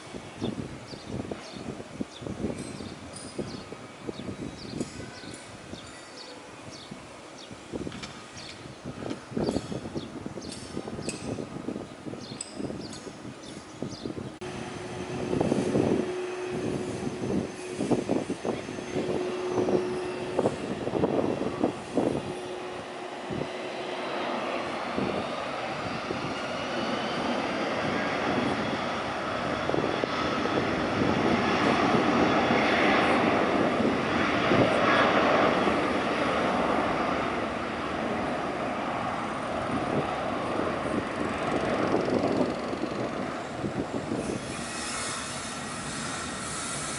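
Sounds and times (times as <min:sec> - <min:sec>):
jet airliner passing: 0:00.0 - 0:46.9.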